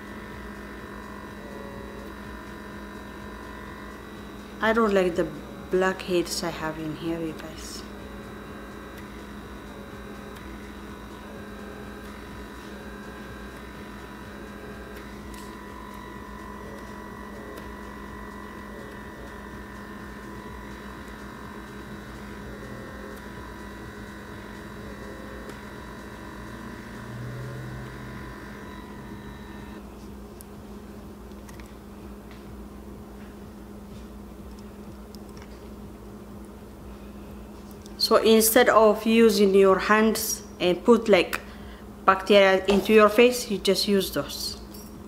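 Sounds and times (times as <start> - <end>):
small suction motor humming: 0.0 - 45.0.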